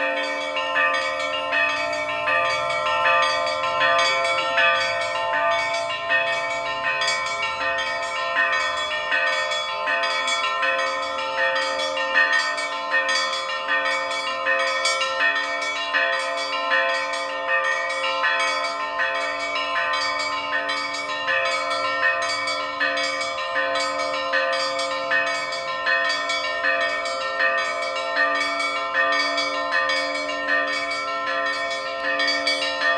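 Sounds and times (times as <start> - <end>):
hum of bells ringing: 0.0 - 32.9
small bells ringing quickly: 0.0 - 32.9.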